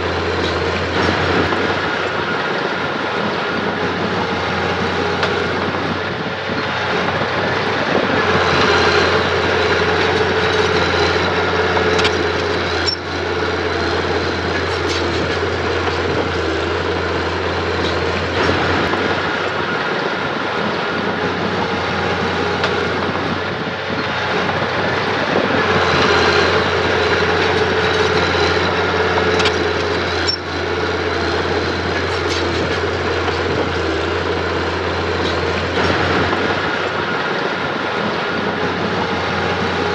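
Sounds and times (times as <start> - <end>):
bulldozer engine running: 0.0 - 39.9.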